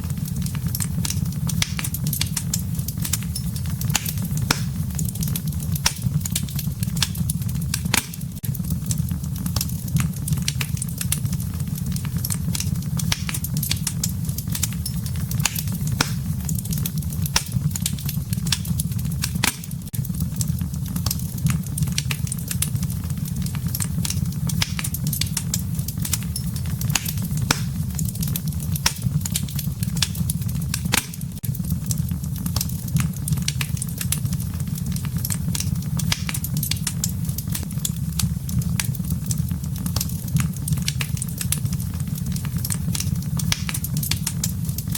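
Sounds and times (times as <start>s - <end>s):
campfire pops and snaps: 0.0s - 44.9s
low rumble of burning fire: 0.0s - 44.9s.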